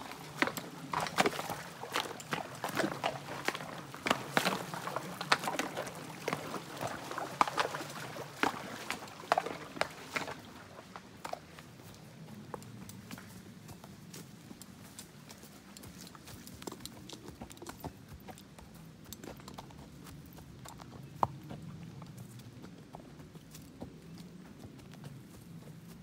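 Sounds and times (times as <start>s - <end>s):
horse hooves splashing in water: 0.0s - 26.0s.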